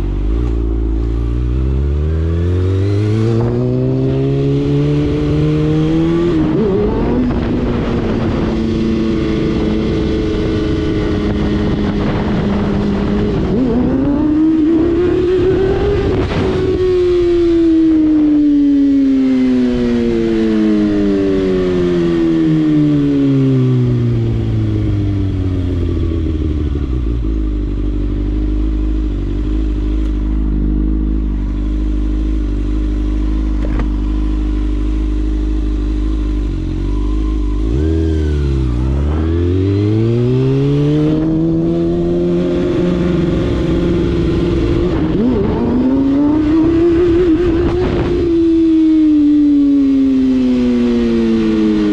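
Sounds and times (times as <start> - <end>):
motorcycle engine: 0.0 - 51.9.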